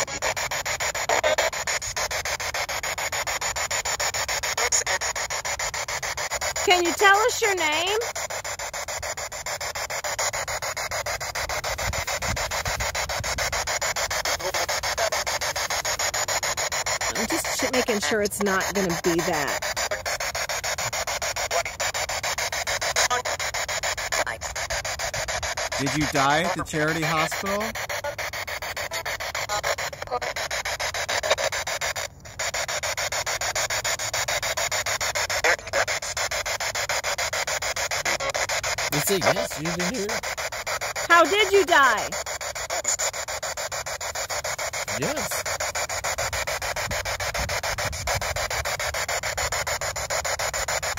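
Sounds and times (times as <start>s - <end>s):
radio static pulsing: 0.0s - 50.9s.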